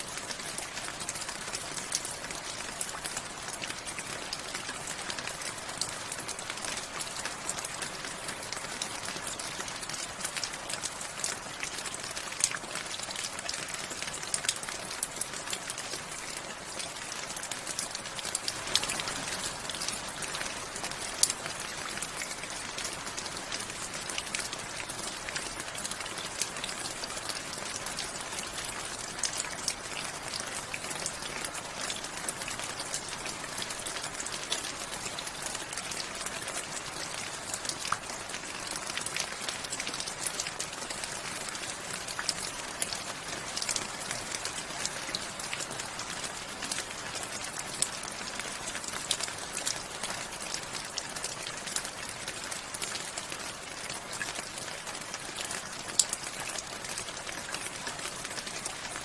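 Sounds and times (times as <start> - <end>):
raindrops ticking on a surface: 0.0 - 59.0.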